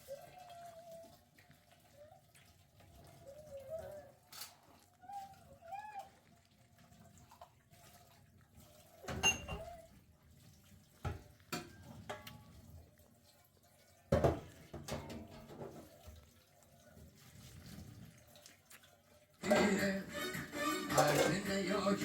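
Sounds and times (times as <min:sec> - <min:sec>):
water splashing and running: 0:00.0 - 0:22.0.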